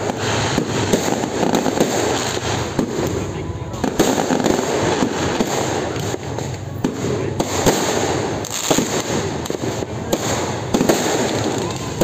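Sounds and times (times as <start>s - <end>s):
fireworks bangs and pops: 0.0s - 12.0s
fireworks crackle: 0.0s - 12.0s.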